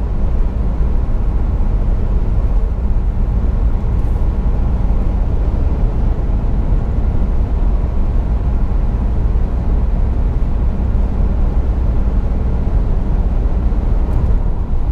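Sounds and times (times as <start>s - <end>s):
car interior road and wind rumble: 0.0s - 14.9s.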